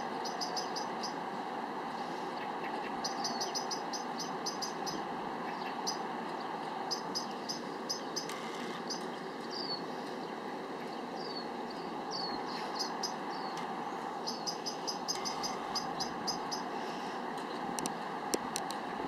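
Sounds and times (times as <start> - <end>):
small bird chirping: 0.2 - 1.2, 2.4 - 16.7.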